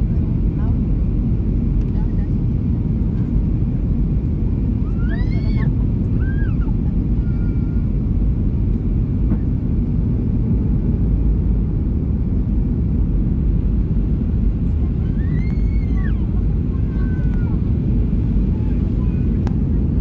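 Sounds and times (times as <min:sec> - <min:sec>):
airplane cabin roar: 0:00.0 - 0:20.0.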